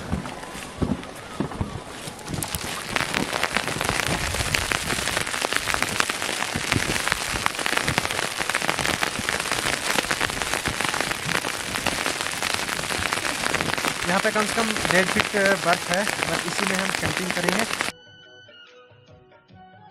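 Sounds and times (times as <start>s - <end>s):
wet snow pattering: 0.0s - 17.9s.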